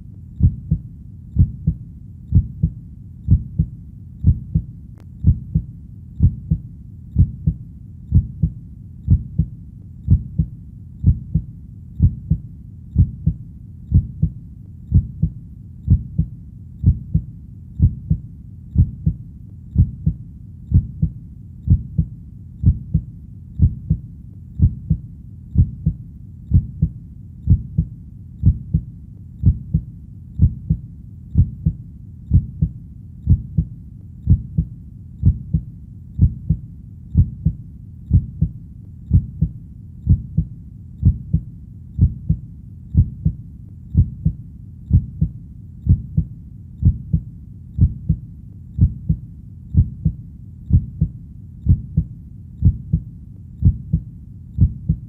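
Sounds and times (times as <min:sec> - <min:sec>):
faint low background rumble: 0:00.0 - 0:55.0
heartbeat: 0:00.0 - 0:55.0.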